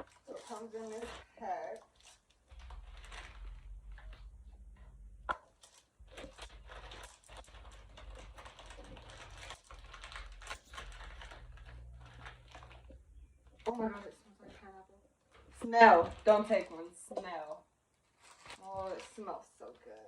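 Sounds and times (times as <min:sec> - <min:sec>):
wrapper crinkling: 0:00.0 - 0:04.7, 0:05.4 - 0:14.6, 0:15.3 - 0:20.0.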